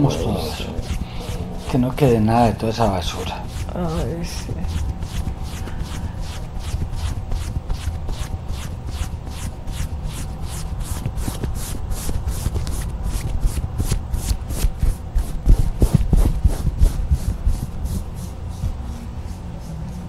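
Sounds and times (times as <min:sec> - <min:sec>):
clothing rubbing on lapel microphone: 0:00.0 - 0:20.0.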